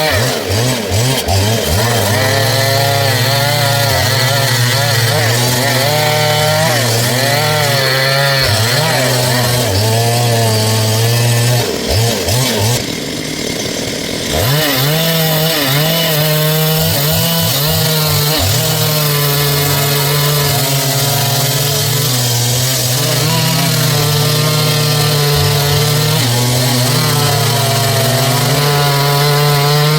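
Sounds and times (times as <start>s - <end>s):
chainsaw cutting log: 0.0s - 29.9s.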